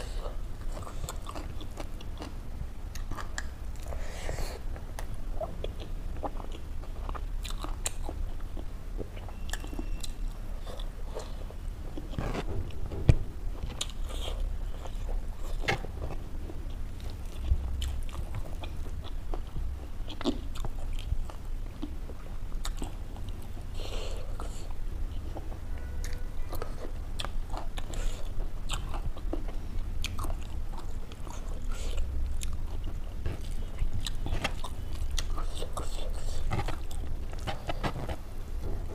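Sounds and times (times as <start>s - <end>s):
close chewing and crunching: 0.0s - 12.6s, 13.6s - 38.2s
steady low hum: 0.0s - 38.9s.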